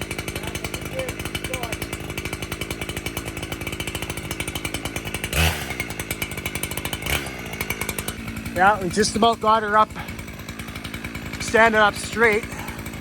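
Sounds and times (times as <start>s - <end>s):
chainsaw engine idling: 0.0s - 13.0s.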